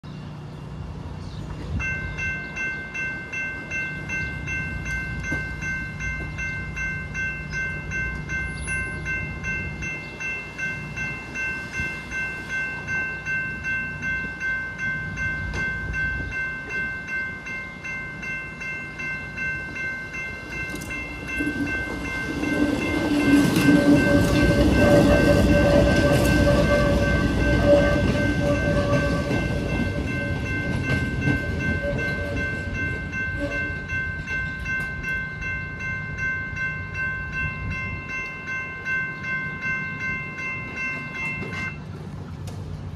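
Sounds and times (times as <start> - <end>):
railroad crossing bells ringing: 0.0 - 42.9
train rumble and motor hum: 0.0 - 42.9.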